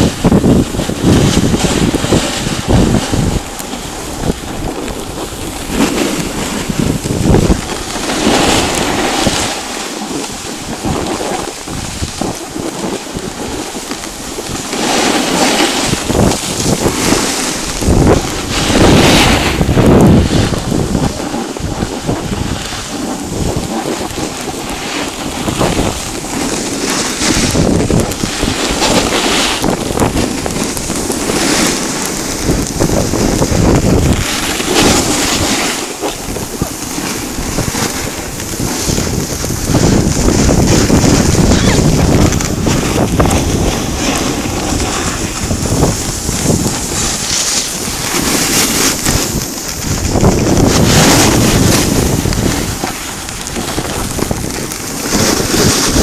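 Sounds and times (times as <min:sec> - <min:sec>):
skis scraping over packed snow: 0:00.0 - 0:56.0
wind buffeting microphone: 0:00.0 - 0:56.0.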